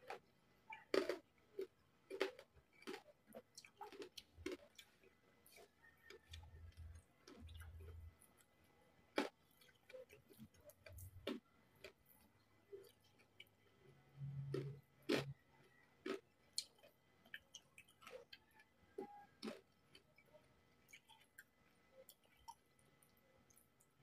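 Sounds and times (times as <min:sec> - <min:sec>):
crunchy wet chewing: 0:00.0 - 0:24.0.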